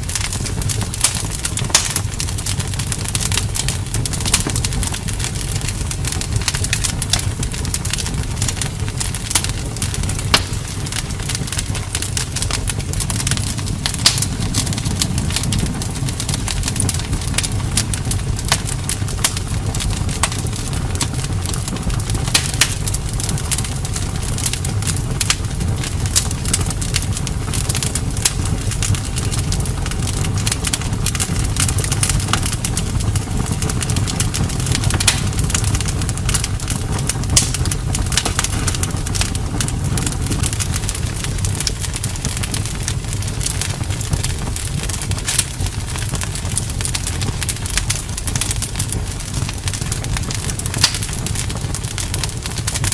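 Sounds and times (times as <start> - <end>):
burning wood crackling and popping: 0.0 - 52.9
fire rumbling: 0.0 - 52.9.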